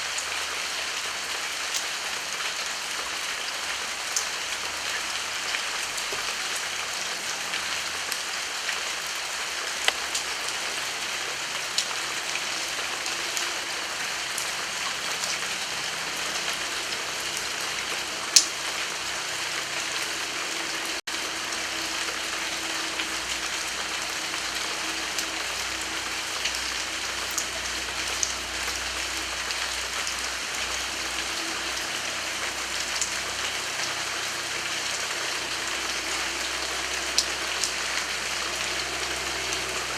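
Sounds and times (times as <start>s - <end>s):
heavy rain hissing: 0.0s - 39.9s
raindrops ticking close by: 0.0s - 39.9s.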